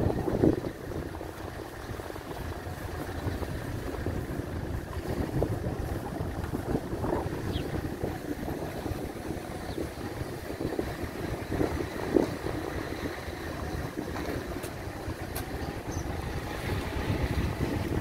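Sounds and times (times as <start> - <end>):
car engine and tyre rumble: 0.0 - 18.0
wind on microphone: 0.0 - 18.0.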